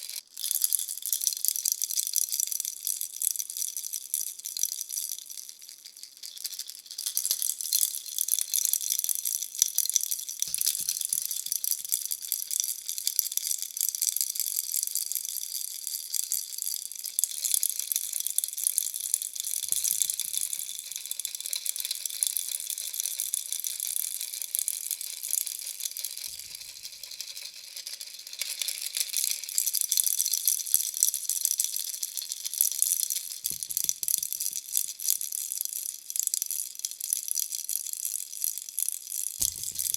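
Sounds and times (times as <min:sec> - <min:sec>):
baby rattle shaking: 0:00.1 - 0:37.0, 0:39.2 - 0:39.9.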